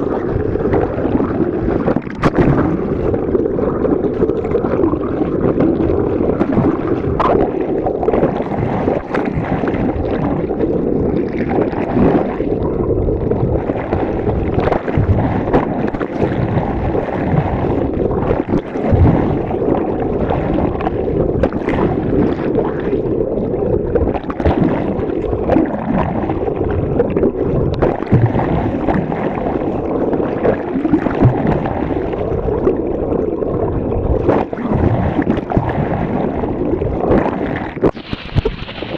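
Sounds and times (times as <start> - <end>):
boat noise underwater: 0.0 - 38.9
underwater rush of water: 0.0 - 38.9.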